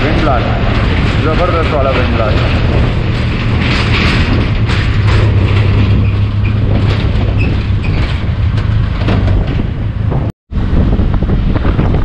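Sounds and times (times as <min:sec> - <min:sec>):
bridge deck knocks and rattles: 0:00.0 - 0:10.3.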